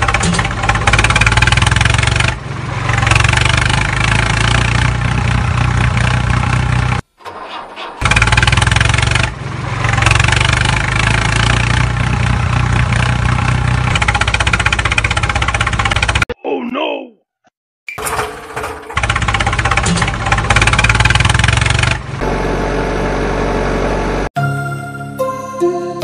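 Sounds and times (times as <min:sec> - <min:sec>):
tractor engine running: 0:00.0 - 0:16.3, 0:18.0 - 0:24.3.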